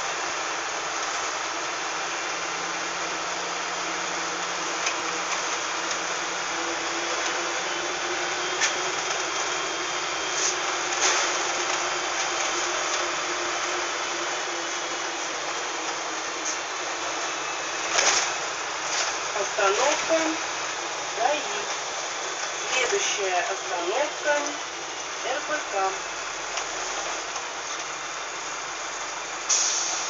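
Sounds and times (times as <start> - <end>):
bus diesel engine and road noise: 0.0 - 30.0.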